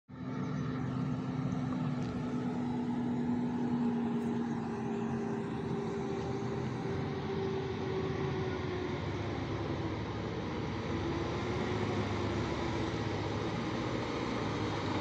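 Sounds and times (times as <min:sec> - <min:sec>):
heavy diesel truck driving past: 0:00.1 - 0:15.0.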